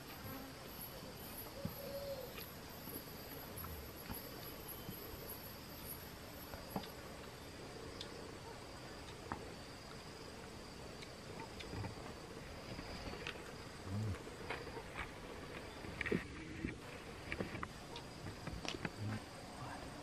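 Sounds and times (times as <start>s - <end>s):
higher insect tone: 0.0s - 20.0s
insects chirring high-pitched: 0.0s - 20.0s.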